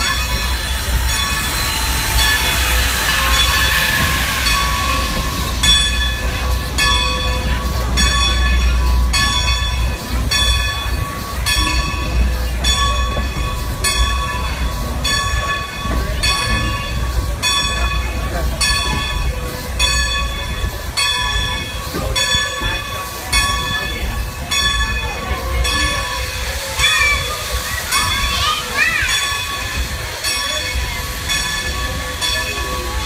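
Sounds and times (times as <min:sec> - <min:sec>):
locomotive bell ringing: 0:00.0 - 0:33.0
steam hiss: 0:00.0 - 0:33.0
train rumbling: 0:00.0 - 0:33.0.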